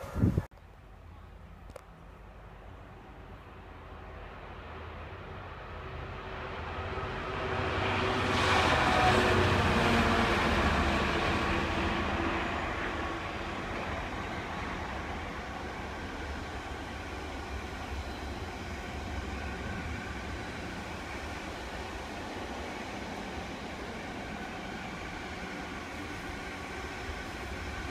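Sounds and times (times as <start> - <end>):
diesel locomotive passing: 1.3 - 27.9.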